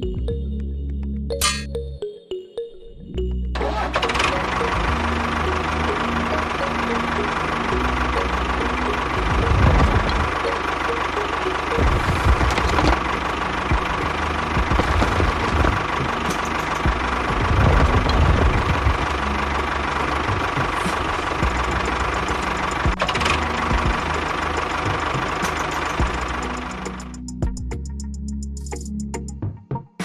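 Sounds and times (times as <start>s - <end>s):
engine knocking idle: 3.6s - 27.7s.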